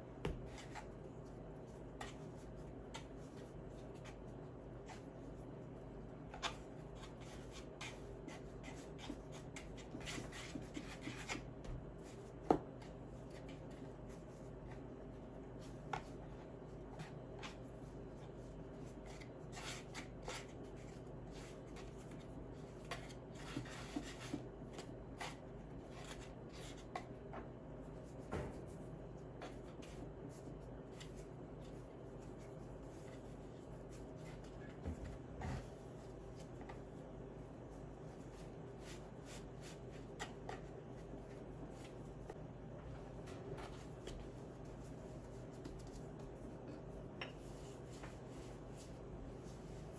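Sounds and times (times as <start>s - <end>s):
faint steady hum: 0.0s - 49.9s
hands kneading dough: 0.0s - 49.9s.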